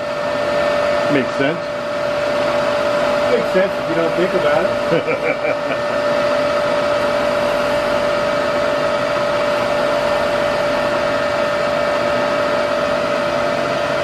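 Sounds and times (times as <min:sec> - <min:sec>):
electric drill whining: 0:02.0 - 0:14.0.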